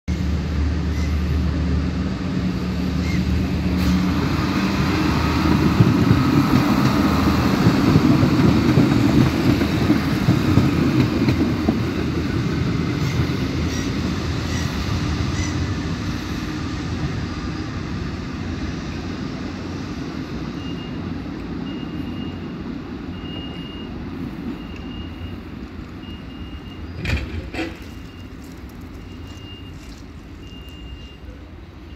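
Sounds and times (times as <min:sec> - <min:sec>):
diesel railcar engine drone: 0:00.1 - 0:31.9
train wheel noise: 0:00.1 - 0:31.9.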